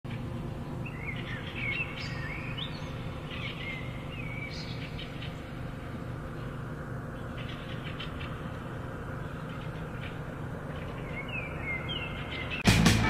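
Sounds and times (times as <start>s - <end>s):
songbird chirping: 0.1s - 13.0s
steady low hum: 0.1s - 13.0s.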